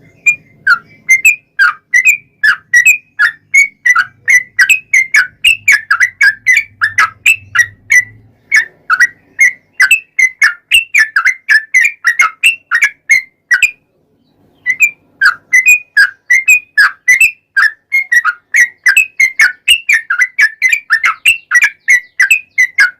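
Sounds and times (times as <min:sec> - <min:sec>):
bird singing whistled notes: 0:00.0 - 0:22.9.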